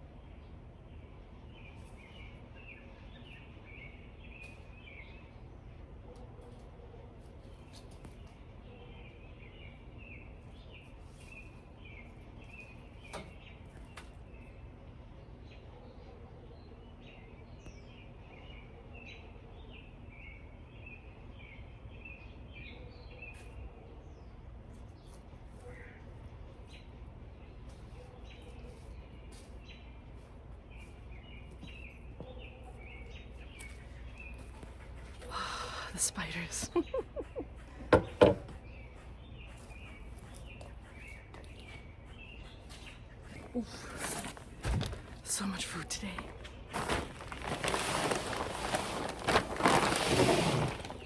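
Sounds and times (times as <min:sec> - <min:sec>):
low background hum: 0:00.0 - 0:51.0
low outdoor rumble: 0:00.0 - 0:51.0
small birds chirping: 0:00.0 - 0:51.0.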